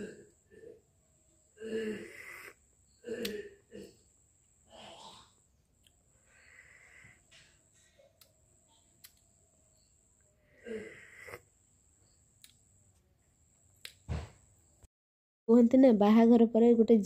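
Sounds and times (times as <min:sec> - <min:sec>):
faint high whine: 0:00.1 - 0:14.9.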